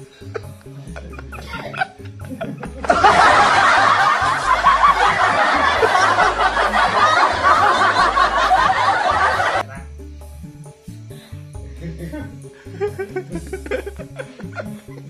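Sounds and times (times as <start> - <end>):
crowd laughing loudly: 0.0 - 9.8, 11.8 - 15.0
background music: 0.0 - 15.0.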